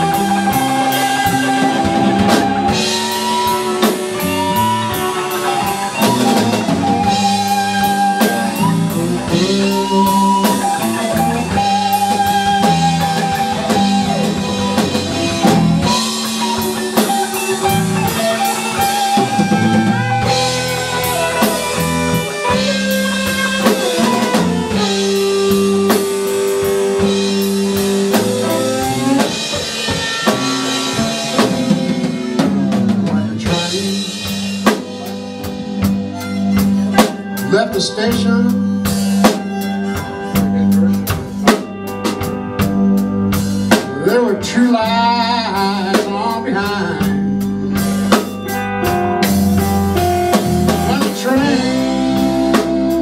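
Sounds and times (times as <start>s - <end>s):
guitar wavering held notes: 0.0s - 53.0s
rock band playing: 0.0s - 53.0s.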